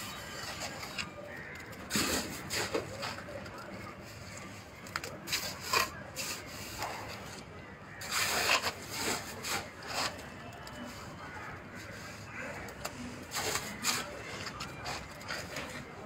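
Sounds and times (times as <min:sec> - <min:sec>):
trowel scraping mortar: 0:00.0 - 0:03.3, 0:05.2 - 0:11.2, 0:11.8 - 0:15.9.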